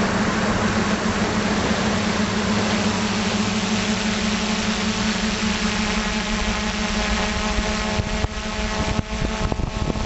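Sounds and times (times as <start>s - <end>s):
drone motors and propellers humming: 0.0s - 10.0s.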